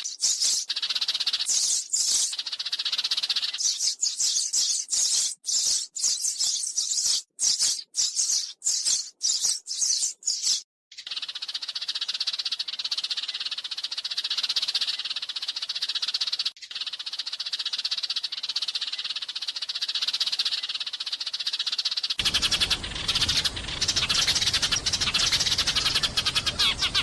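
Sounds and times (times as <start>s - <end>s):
sparrows chirping: 0.0s - 27.0s.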